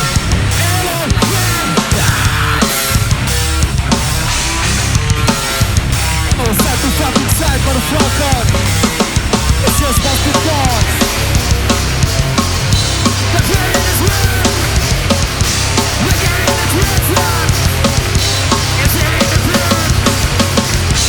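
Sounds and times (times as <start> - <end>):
distorted guitar and bass: 0.0 - 21.0
pounding drums: 0.0 - 21.0.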